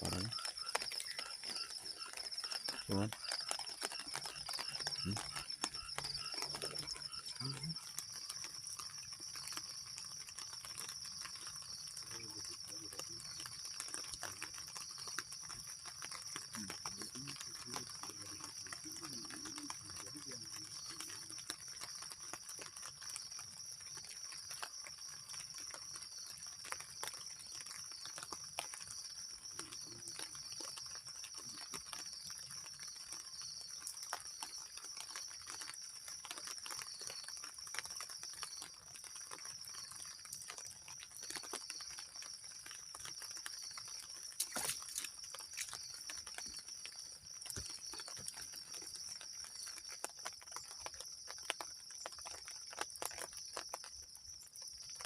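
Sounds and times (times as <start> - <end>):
high-pitched insect chorus: 0.0 - 55.0
small ticks and knocks: 0.1 - 54.1.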